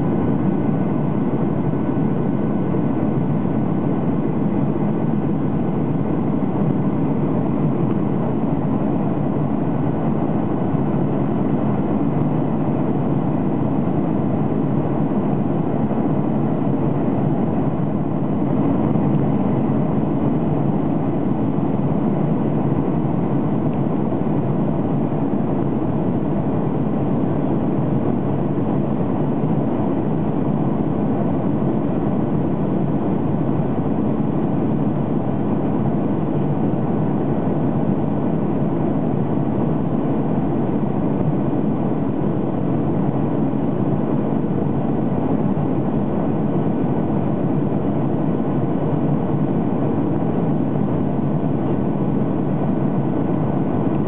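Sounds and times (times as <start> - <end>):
airflow around aircraft fuselage: 0.0 - 54.0
faint steady whines: 0.0 - 54.0
jet engines droning: 0.0 - 54.0.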